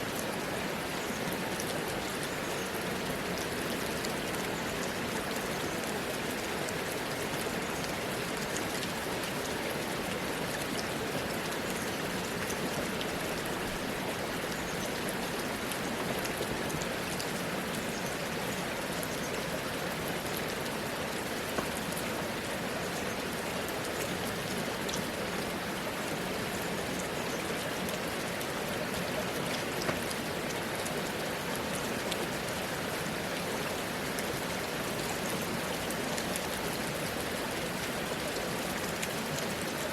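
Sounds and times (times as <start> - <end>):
steady rain hiss: 0.0 - 39.9
raindrops ticking on hard surfaces: 0.1 - 39.9.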